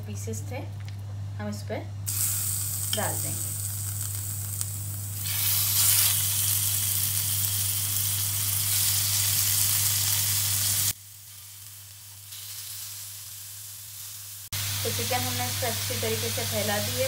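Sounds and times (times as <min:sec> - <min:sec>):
chicken sizzling on a grill pan: 0:02.1 - 0:17.0.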